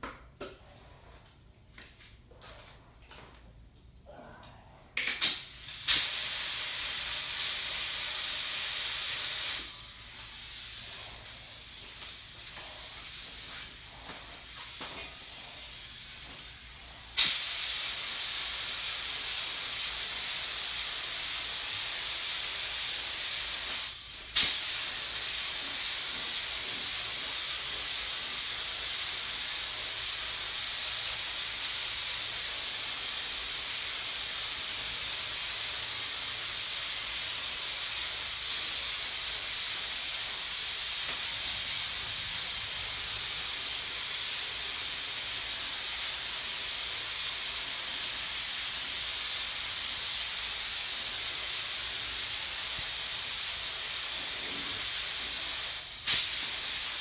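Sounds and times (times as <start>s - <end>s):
paint spray gun hissing: 5.2s - 57.0s.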